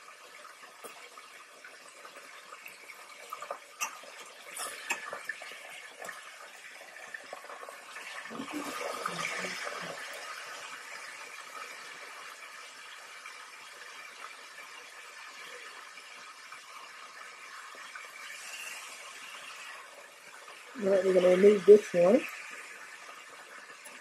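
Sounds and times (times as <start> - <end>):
meat sizzling in hot oil: 0.0 - 24.0.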